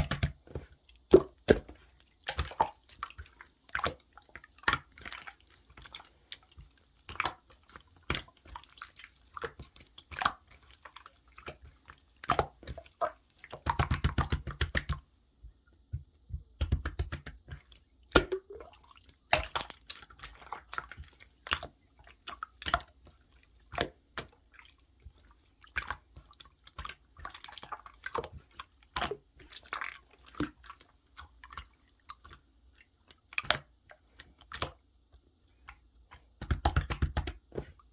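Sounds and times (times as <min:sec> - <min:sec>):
slime squelching by hand: 0:00.0 - 0:15.1, 0:15.8 - 0:37.9.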